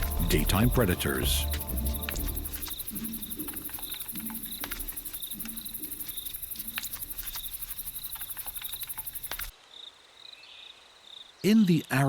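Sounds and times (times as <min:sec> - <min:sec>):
crickets trilling: 0:00.0 - 0:09.9
cricket chirp: 0:00.0 - 0:11.4.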